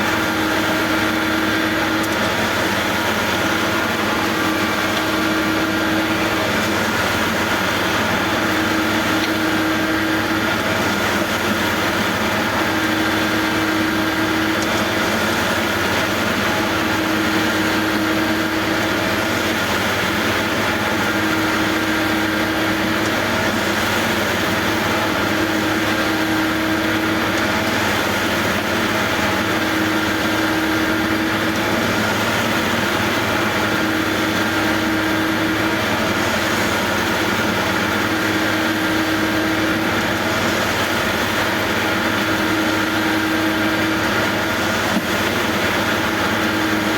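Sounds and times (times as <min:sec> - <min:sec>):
construction machinery engines running: 0:00.0 - 0:46.9.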